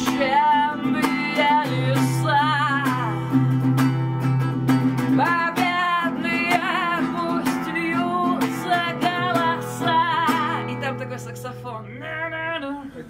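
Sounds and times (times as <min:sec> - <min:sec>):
person singing wordlessly: 0:00.0 - 0:03.3, 0:05.2 - 0:13.0
acoustic guitar strumming: 0:00.0 - 0:12.8.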